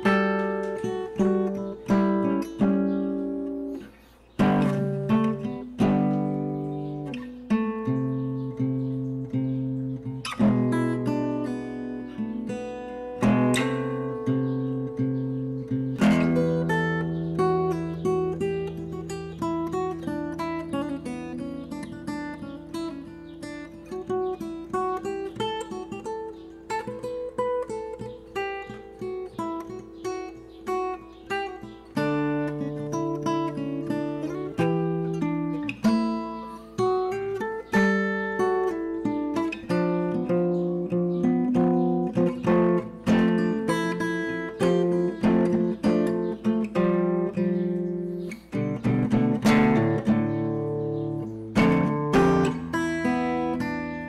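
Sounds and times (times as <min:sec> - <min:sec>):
acoustic guitar music: 0:00.0 - 0:54.0.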